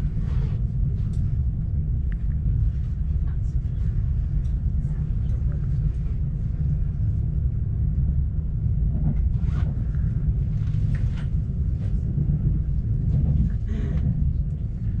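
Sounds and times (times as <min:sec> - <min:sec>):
train rumbling from inside carriage: 0:00.0 - 0:15.0.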